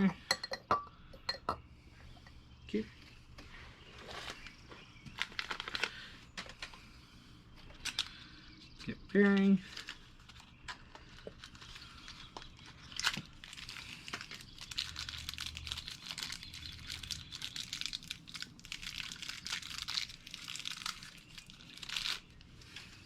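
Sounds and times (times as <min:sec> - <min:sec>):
crinkling and crackling: 0:03.0 - 0:06.9, 0:07.6 - 0:23.0.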